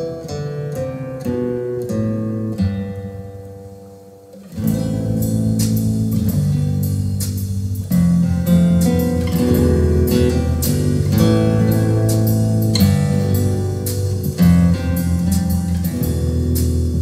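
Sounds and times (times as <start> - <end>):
strummed guitar with bass notes: 0.0 - 17.0.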